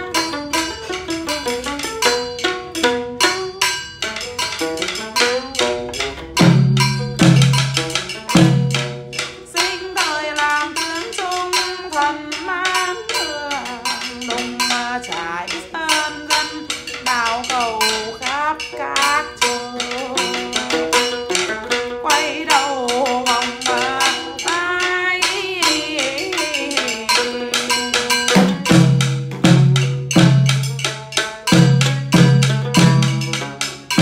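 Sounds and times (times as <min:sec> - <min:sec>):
plucked lute melody: 0:00.0 - 0:34.0.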